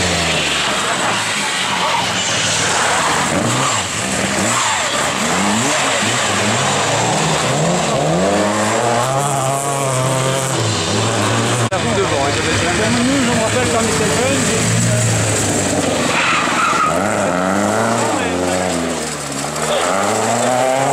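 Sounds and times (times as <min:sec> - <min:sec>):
rally car engine revving: 0:00.0 - 0:20.9
tyre and road noise: 0:00.0 - 0:20.9.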